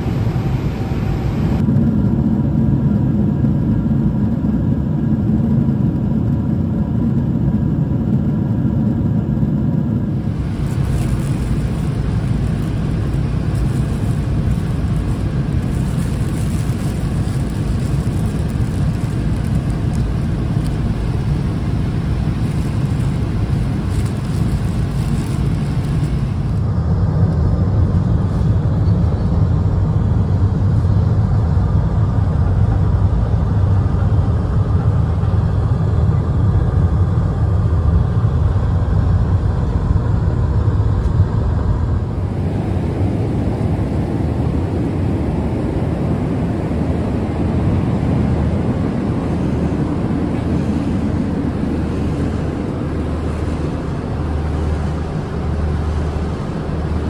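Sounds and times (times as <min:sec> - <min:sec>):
airliner cabin rumbling hum: 0:00.0 - 0:57.0.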